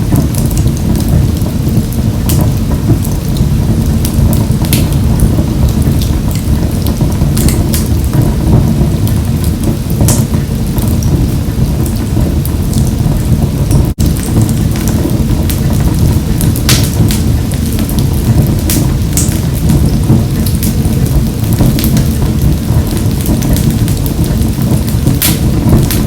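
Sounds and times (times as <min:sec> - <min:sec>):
fire crackling and popping: 0:00.0 - 0:26.0
fire rumbling in a wood stove: 0:00.0 - 0:26.0.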